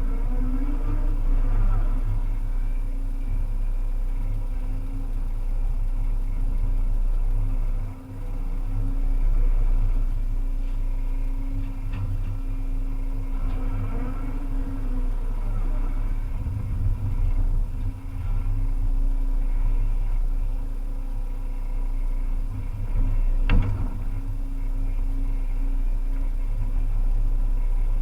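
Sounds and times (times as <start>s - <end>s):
excavator diesel engine hum: 0.0s - 28.0s.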